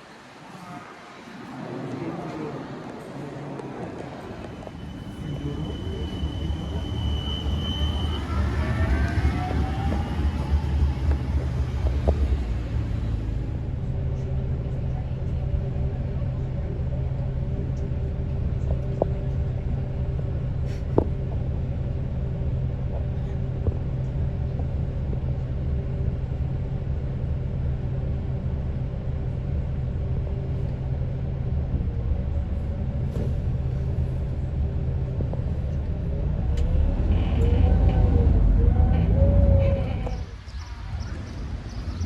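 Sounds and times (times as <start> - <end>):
vehicle low rumble: 1.5 - 42.0.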